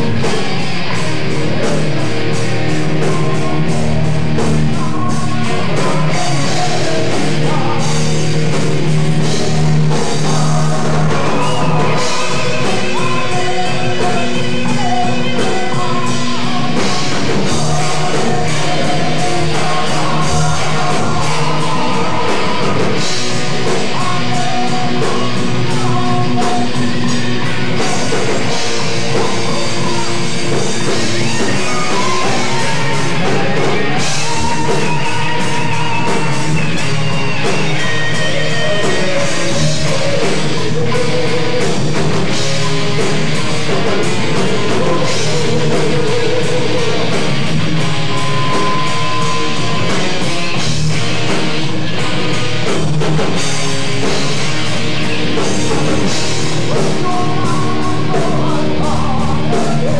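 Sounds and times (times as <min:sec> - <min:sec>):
person singing: 0:00.0 - 0:47.4, 0:55.4 - 0:59.9
distorted electric guitars: 0:00.0 - 0:59.9
drum kit: 0:00.0 - 0:59.9.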